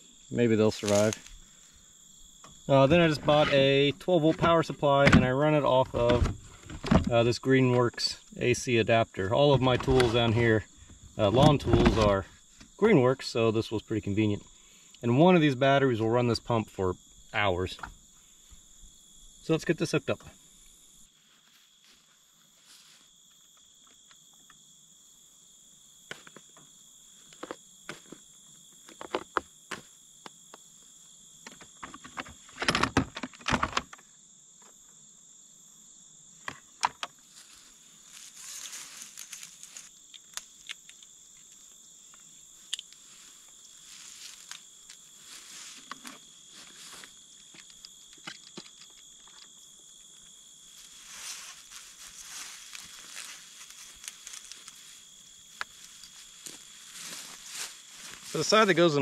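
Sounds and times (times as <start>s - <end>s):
high insect song: 0.0s - 59.0s.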